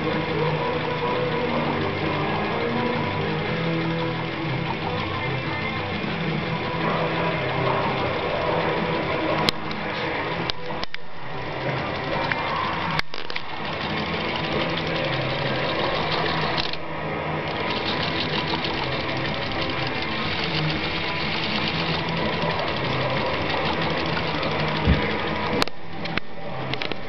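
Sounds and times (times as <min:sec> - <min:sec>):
mechanical whirring rattle: 0:00.0 - 0:27.0.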